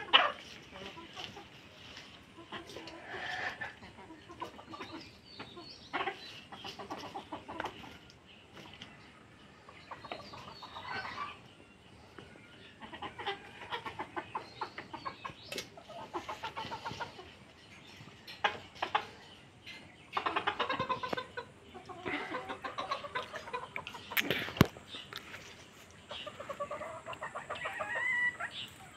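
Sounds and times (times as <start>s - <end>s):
hens clucking: 0.0s - 28.9s.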